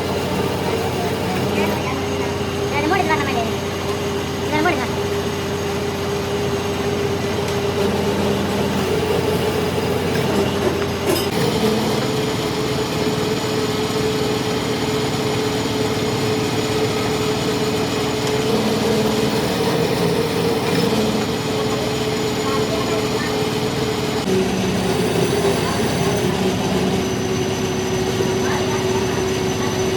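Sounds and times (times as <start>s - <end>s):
workshop machine humming: 0.0s - 29.9s.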